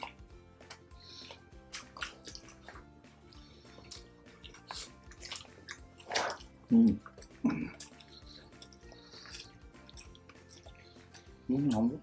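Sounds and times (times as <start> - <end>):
background music: 0.0 - 12.0
people chewing and smacking: 0.0 - 12.0.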